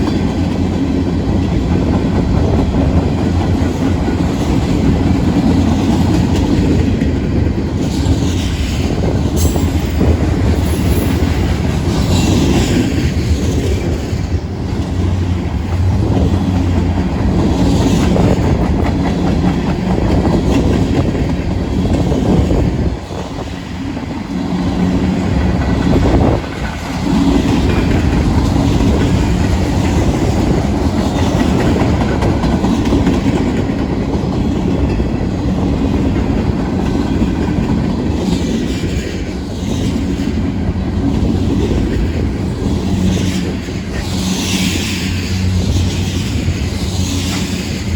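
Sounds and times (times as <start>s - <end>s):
freight train rumbling past: 0.0s - 47.9s
wheels clacking over rail joints: 0.0s - 47.9s.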